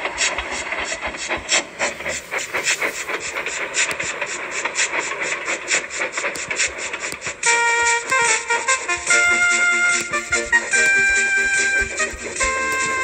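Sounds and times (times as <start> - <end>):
continuous steam hiss: 0.0 - 13.0
steam locomotive chuffing: 0.0 - 13.0.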